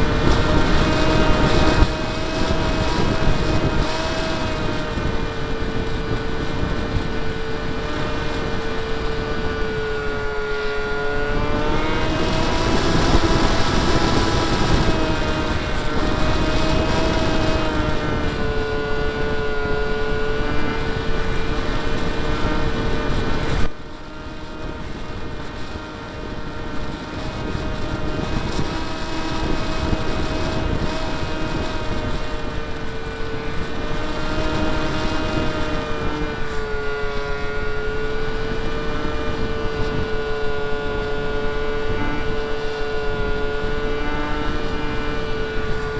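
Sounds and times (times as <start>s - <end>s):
electric motor and propeller whining: 0.0s - 45.9s
wind rushing across camera: 0.0s - 45.9s.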